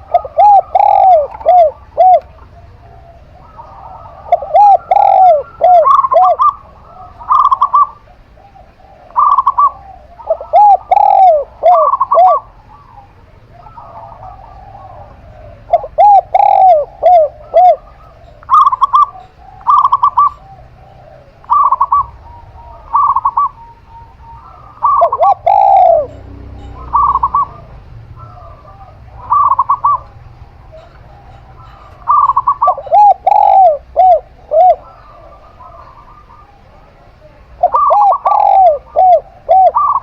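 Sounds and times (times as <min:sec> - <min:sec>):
doves cooing: 0:00.0 - 0:40.0.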